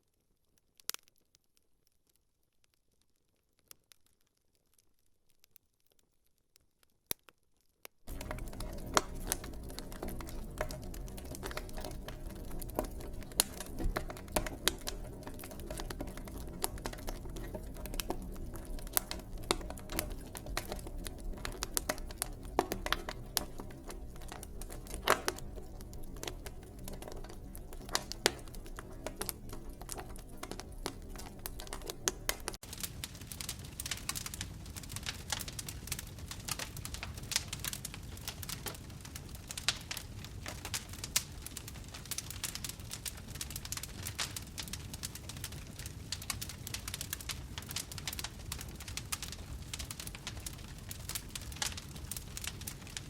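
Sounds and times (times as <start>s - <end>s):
fire crackling: 8.1s - 53.0s.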